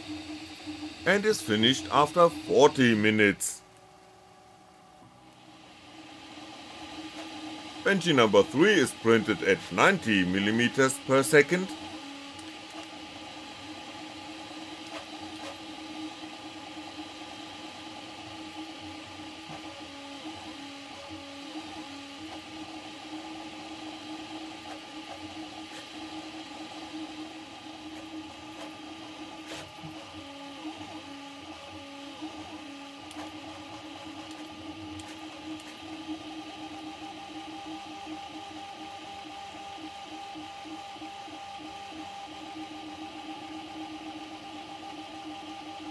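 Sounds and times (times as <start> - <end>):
printer stepper motors singing: 0.0 - 3.5, 5.5 - 45.9.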